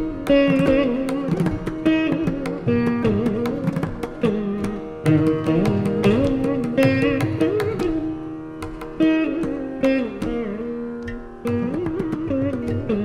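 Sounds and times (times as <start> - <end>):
hand drum strokes: 0.0 - 13.0
veena plucked notes: 0.0 - 13.0.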